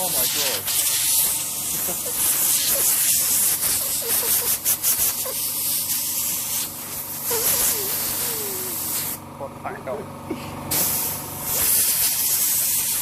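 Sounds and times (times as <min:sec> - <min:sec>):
compressed air spraying hiss: 0:00.0 - 0:09.2, 0:10.7 - 0:13.0.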